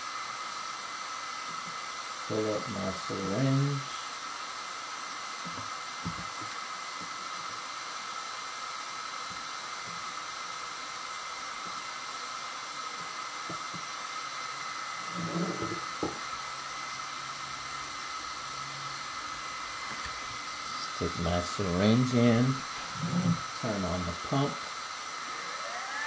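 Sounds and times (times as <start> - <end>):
steady hiss with high whine: 0.0 - 26.0.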